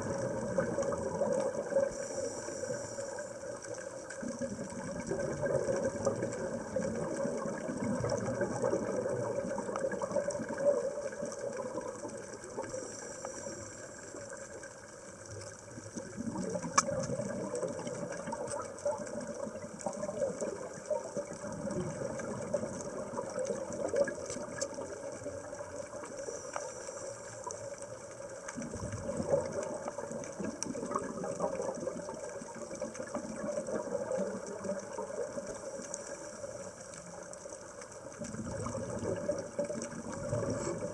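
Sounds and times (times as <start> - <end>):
small clicks: 0.0 - 40.9
steady water noise: 0.0 - 40.9.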